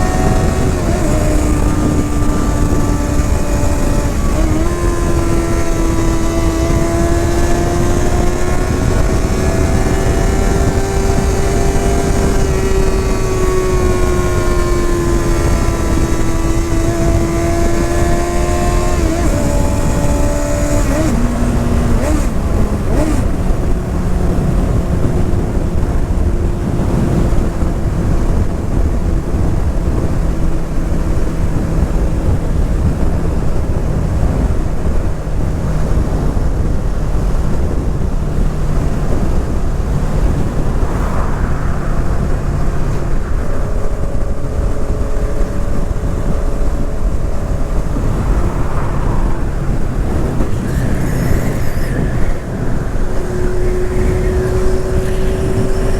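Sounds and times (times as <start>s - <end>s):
motorcycle engine at road speed: 0.0s - 55.9s
wind rush on microphone: 0.0s - 55.9s.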